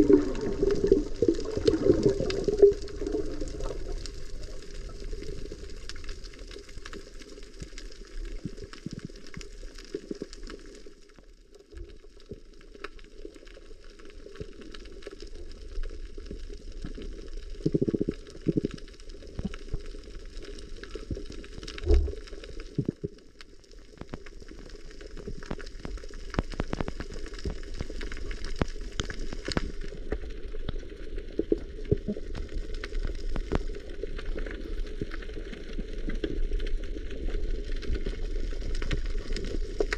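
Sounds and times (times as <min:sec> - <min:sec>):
low underwater rumble: 0:00.0 - 0:10.4, 0:15.6 - 0:39.9
low gurgles: 0:00.0 - 0:11.1, 0:13.5 - 0:39.9
underwater crackle of clicks: 0:00.0 - 0:39.9.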